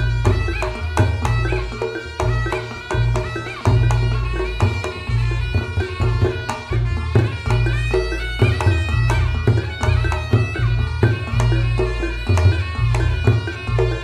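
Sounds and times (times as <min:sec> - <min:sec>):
drum beaten in fast rhythm: 0:00.0 - 0:14.0
reed pipe melody: 0:00.0 - 0:14.0.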